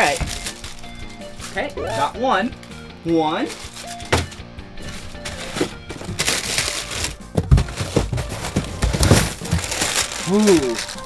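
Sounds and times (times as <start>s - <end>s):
background music: 0.0s - 11.0s
wrappers and cardboard rustling: 0.0s - 11.0s.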